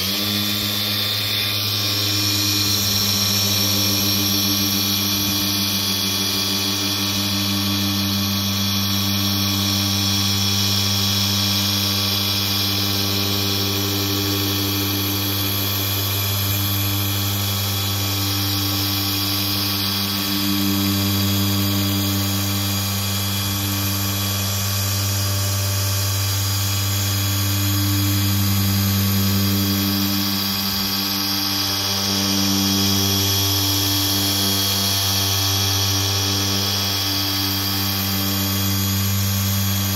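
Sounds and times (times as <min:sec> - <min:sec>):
polisher motor hum: 0:00.0 - 0:39.9.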